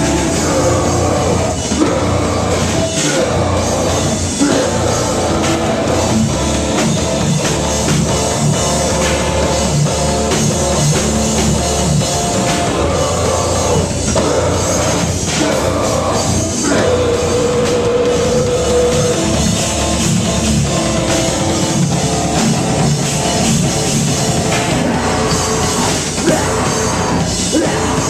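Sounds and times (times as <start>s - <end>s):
bass guitar chugging: 0.0s - 28.0s
distorted electric guitars: 0.0s - 28.0s
rock drums: 0.0s - 28.0s.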